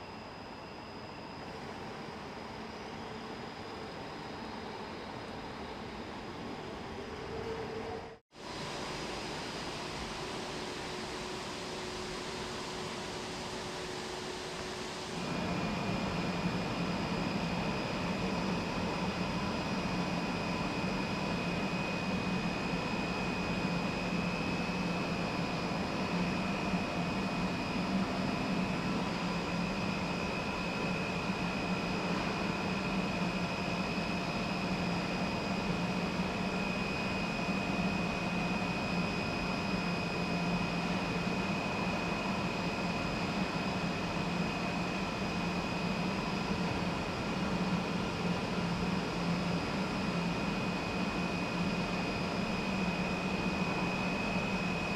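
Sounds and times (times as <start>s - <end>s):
high-pitched machinery whine: 0.0s - 54.9s.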